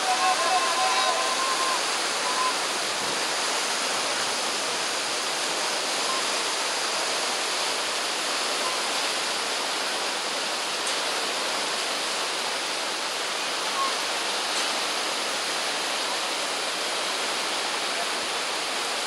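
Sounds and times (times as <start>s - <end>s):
rushing rapids: 0.0s - 19.0s.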